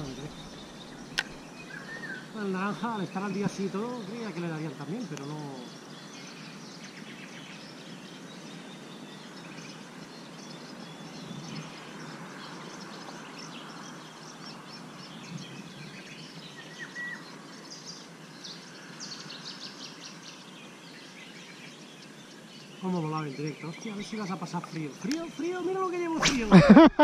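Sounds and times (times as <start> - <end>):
small birds chirping: 0.0 - 26.9
steady background hiss: 0.0 - 27.0.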